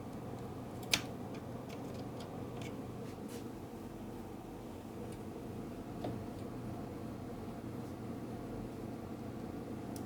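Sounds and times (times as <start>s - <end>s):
low background hum and hiss: 0.0s - 10.0s.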